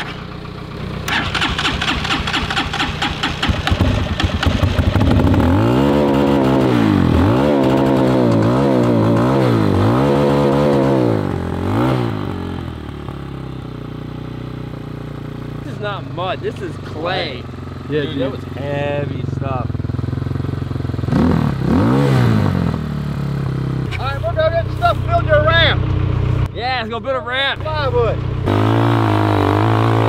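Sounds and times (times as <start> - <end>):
dirt bike engine revving: 0.0 - 13.4, 14.0 - 26.5, 27.6 - 30.0.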